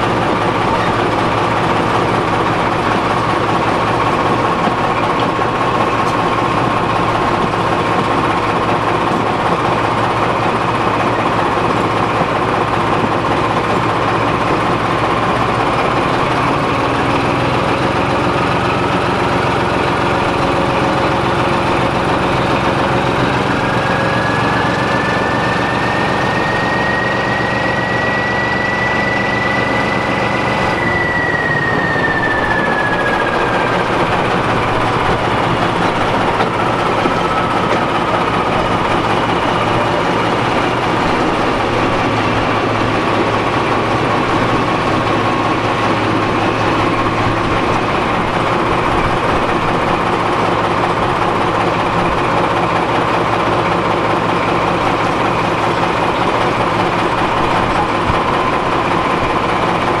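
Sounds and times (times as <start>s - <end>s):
diesel locomotive engine running: 0.0s - 60.0s
falling whine: 0.0s - 60.0s.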